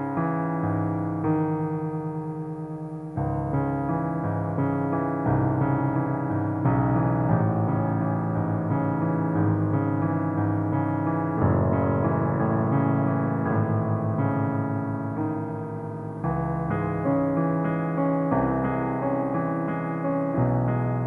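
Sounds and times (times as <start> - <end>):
slow gentle solo piano: 0.0 - 21.0.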